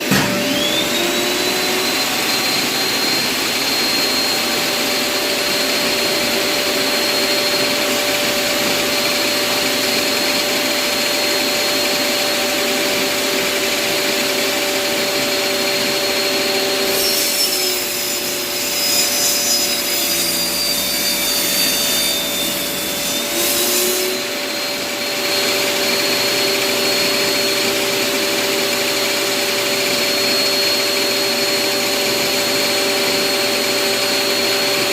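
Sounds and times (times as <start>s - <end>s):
circular saw whine: 0.0s - 34.9s
saw blade cutting wood: 0.0s - 34.9s.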